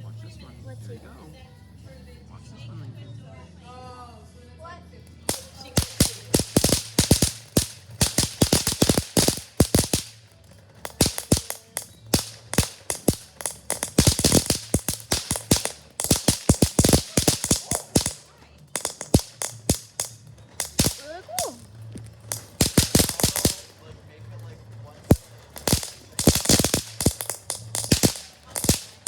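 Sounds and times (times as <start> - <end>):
firework crackling pops: 5.1 - 29.0.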